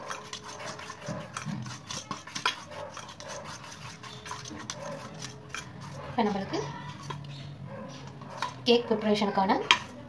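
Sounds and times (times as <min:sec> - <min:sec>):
spoon scraping metal bowl: 0:00.0 - 0:10.0.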